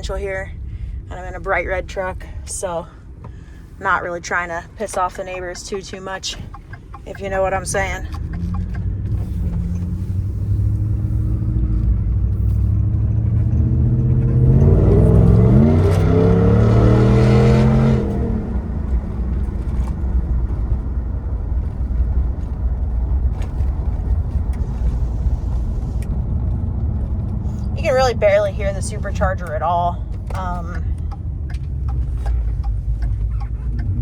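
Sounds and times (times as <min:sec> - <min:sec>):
truck engine accelerating: 0:00.0 - 0:34.0.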